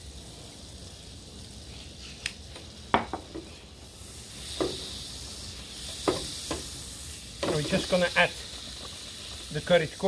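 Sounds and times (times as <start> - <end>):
butter sizzling in frying pan: 0.0 - 10.0.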